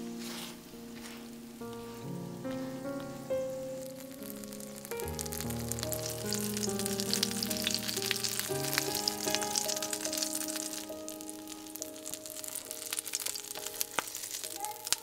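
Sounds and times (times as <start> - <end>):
background music: 0.0 - 15.0
oil sizzling and crackling: 2.7 - 15.0.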